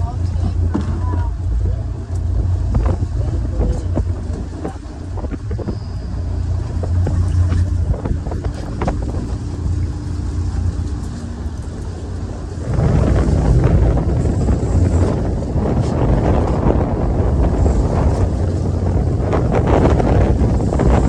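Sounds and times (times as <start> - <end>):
boat engines rumbling: 0.0 - 21.0
wind on microphone: 0.0 - 21.0.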